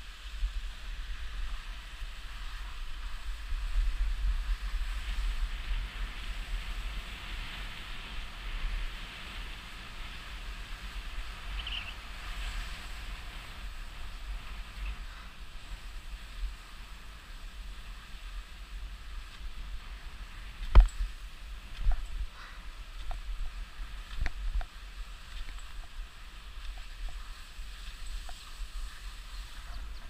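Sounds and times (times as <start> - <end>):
skis scraping over snow: 0.0 - 30.0
wind buffeting microphone: 0.0 - 30.0.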